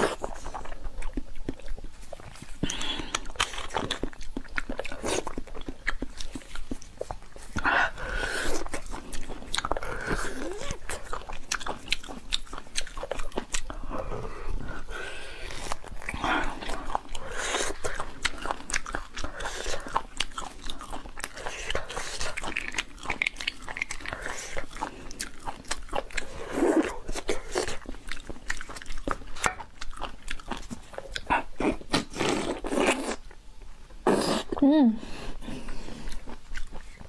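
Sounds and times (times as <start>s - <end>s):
person chewing wetly: 0.0s - 33.4s, 35.4s - 37.0s.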